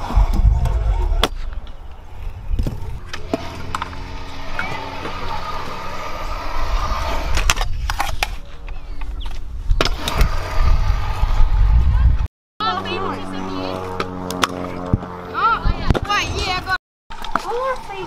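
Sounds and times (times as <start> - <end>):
scooter wheels rolling on concrete: 0.0 - 18.0.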